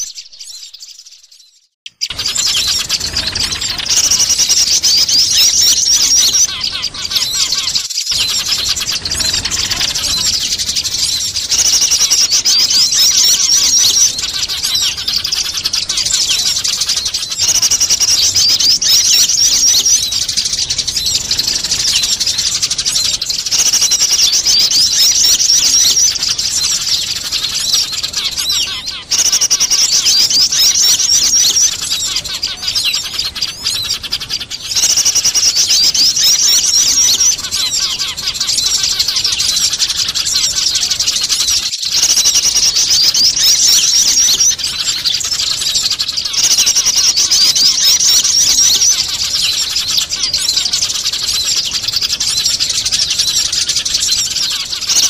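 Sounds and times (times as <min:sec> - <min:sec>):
small birds calling: 0:00.0 - 0:55.0
sparrows chattering: 0:00.0 - 0:55.0.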